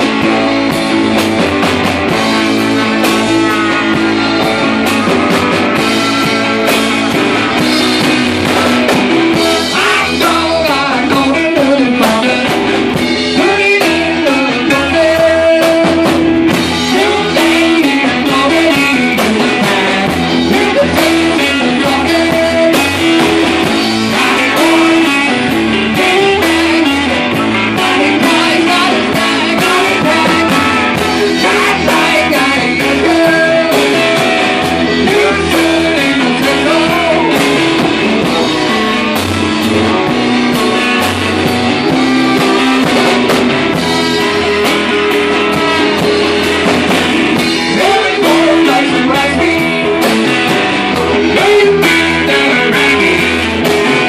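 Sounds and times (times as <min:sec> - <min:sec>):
drum kit steady beat: 0:00.0 - 0:54.0
electric guitar through amplifier: 0:00.0 - 0:54.0.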